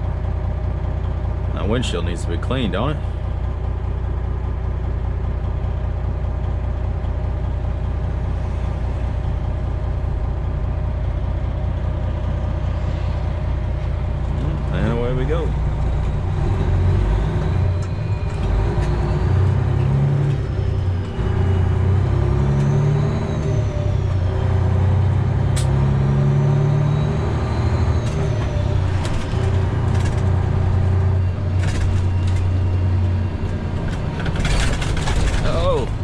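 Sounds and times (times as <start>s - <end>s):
truck diesel engine accelerating: 0.0s - 36.0s.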